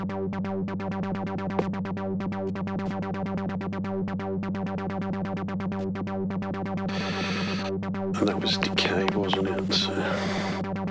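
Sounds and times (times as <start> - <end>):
low synthesizer drone: 0.0 - 10.9
synthesizer repeated notes: 0.0 - 10.9.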